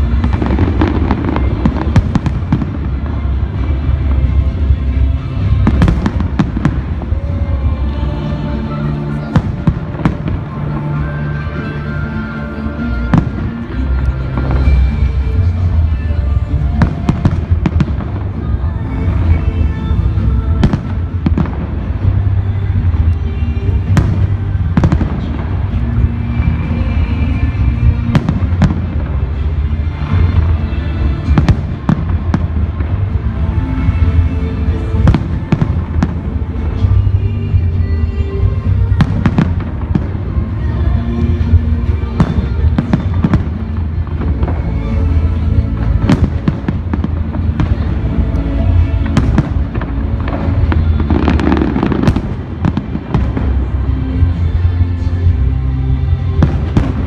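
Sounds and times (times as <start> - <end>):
fireworks cracking: 0.0 - 57.0
loud music: 0.0 - 57.0.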